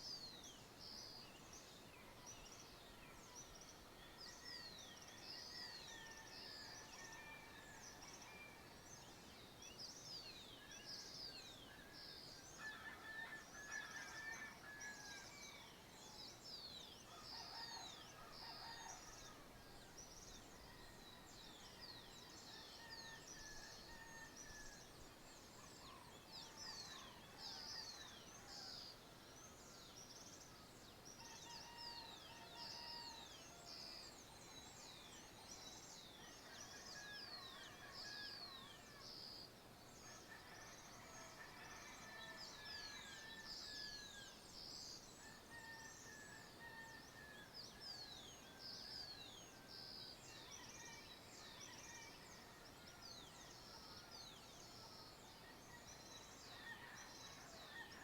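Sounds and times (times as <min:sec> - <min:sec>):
soft steady background hiss: 0:00.0 - 0:58.0.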